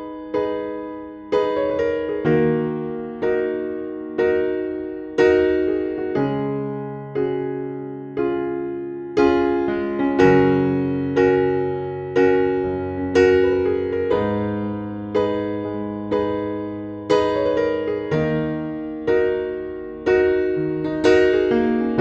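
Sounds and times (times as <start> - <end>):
soft slow piano chords: 0.0 - 22.0.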